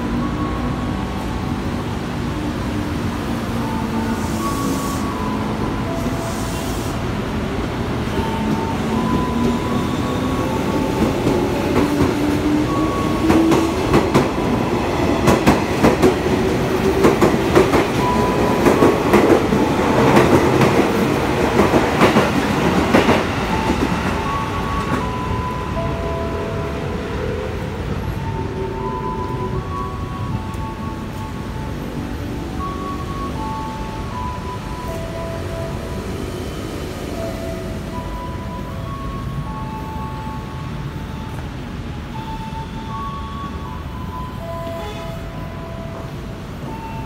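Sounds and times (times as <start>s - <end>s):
train running whine: 0.0s - 47.0s.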